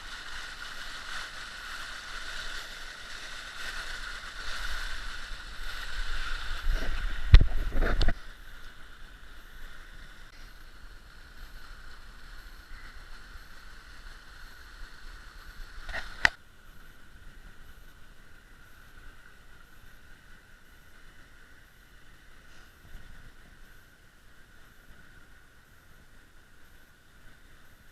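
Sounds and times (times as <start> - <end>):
creek flowing over stones: 0.0 - 27.9.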